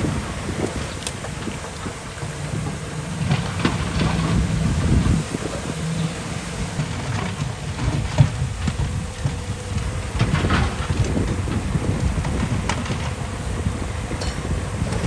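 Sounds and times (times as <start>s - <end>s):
heavy diesel machinery rumble: 0.0s - 15.0s.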